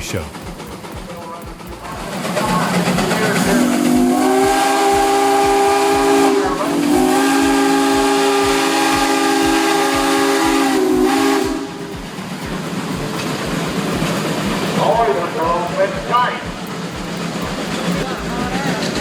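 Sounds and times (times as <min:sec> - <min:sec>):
regular low engine beat: 0:00.0 - 0:19.0
steam whistle chord: 0:01.9 - 0:19.0.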